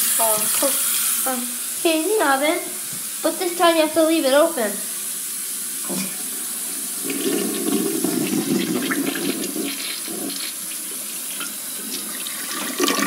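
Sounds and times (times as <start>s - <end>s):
toilet flushing: 0.0s - 13.0s.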